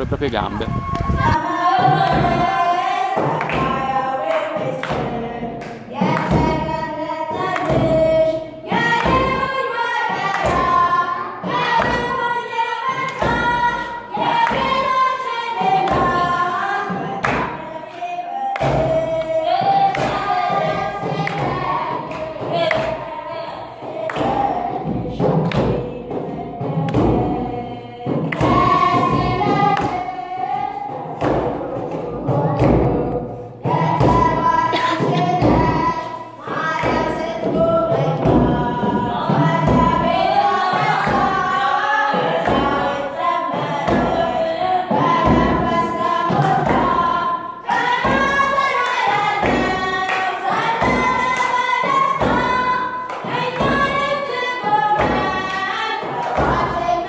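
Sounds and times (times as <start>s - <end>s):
drum beats: 0.0s - 57.0s
choir singing: 1.3s - 57.0s.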